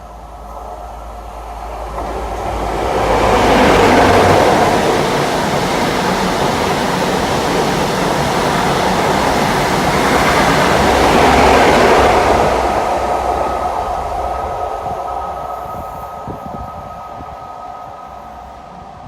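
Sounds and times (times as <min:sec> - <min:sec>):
train passing close by: 0:00.0 - 0:19.0.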